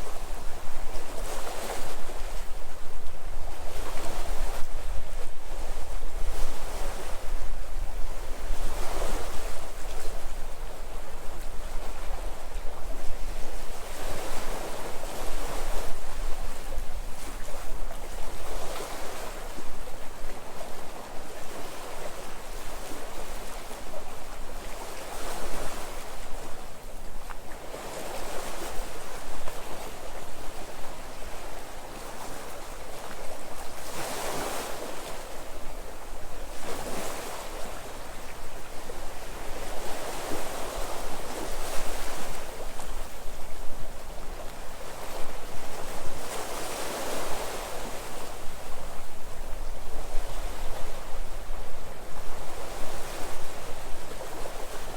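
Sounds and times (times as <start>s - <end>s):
sea waves breaking on shore: 0.0s - 54.9s
wind rumble on microphone: 0.0s - 54.9s.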